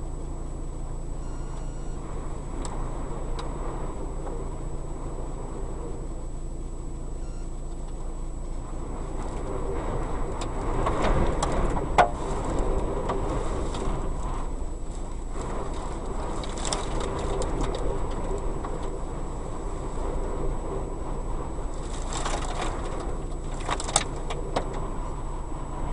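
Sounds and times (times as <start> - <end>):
strong wind buffeting microphone: 0.0 - 7.0, 7.9 - 25.9.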